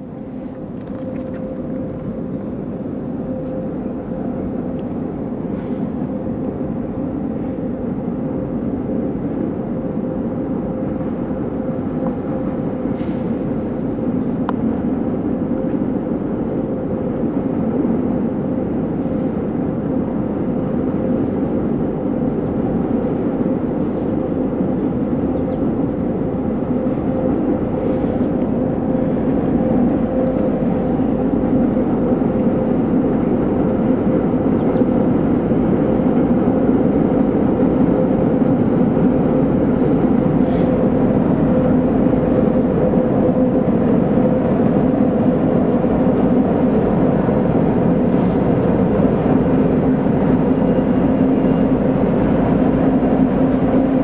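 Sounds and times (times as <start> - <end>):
distant diesel engine drone: 0.0 - 54.0.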